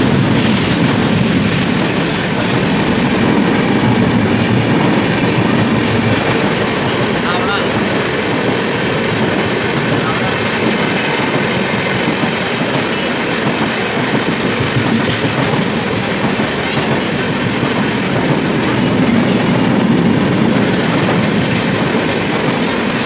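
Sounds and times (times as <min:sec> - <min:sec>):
train wheels rushing on rails: 0:00.0 - 0:23.0.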